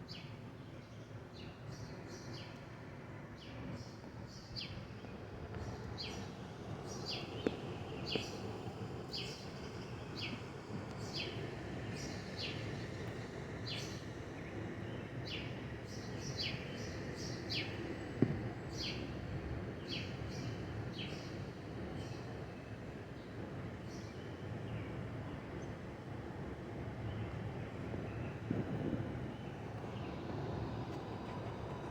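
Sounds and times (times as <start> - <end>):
low background hum: 0.0 - 31.9.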